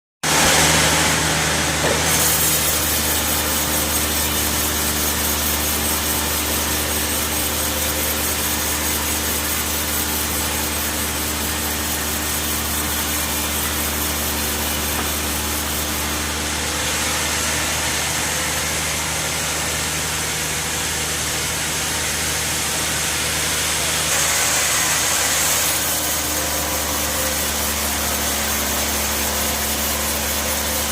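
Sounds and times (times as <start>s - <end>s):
band saw cutting log: 0.2s - 30.9s.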